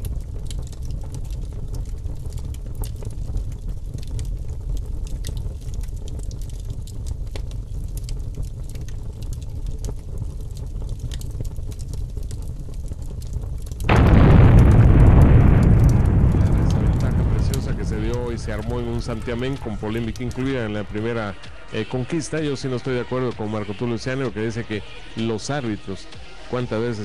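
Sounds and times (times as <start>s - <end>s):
low rumble: 0.0s - 21.8s
sharp crackles and pops: 0.0s - 27.0s.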